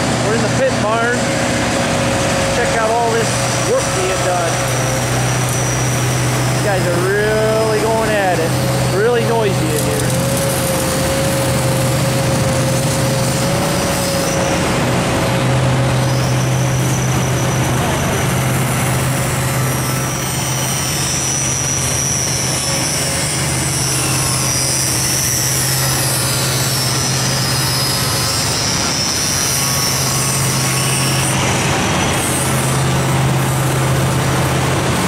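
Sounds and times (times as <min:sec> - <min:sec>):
angle grinder grinding steel: 0:00.0 - 0:35.0.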